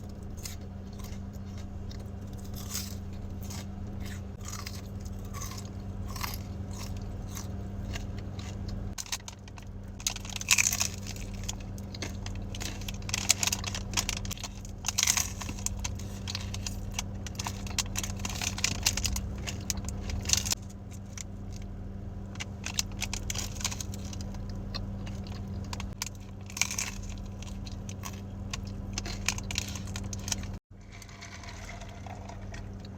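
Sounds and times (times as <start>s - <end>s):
chewing and crunching food: 0.0s - 32.9s
steady low hum: 0.0s - 32.9s.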